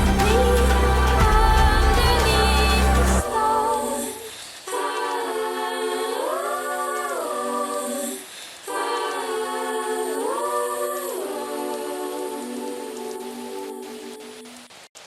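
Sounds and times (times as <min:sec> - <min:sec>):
a cappella choir singing: 0:00.0 - 0:14.7.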